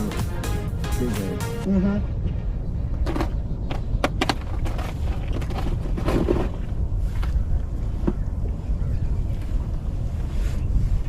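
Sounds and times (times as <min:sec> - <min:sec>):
wind buffeting microphone: 0:02.0 - 0:11.0.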